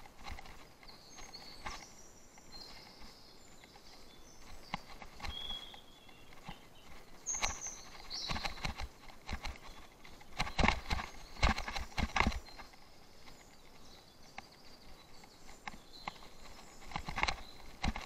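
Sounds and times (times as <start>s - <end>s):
bicycle rattling over rough ground: 0.0s - 18.0s.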